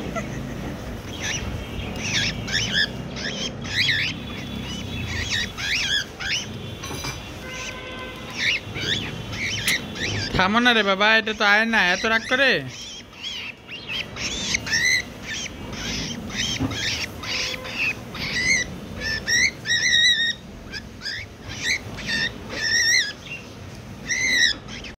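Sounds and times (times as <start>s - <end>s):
cockatiel squawking and chirping: 0.0s - 25.0s.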